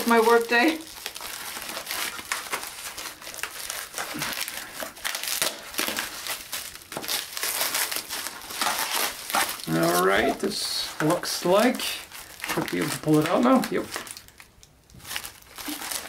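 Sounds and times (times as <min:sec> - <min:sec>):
plastic wrapping crinkling and tearing: 0:00.0 - 0:16.0.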